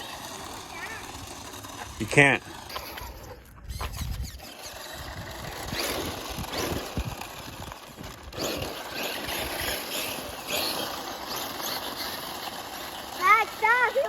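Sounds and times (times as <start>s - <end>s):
remote-control car driving: 0.0s - 14.0s.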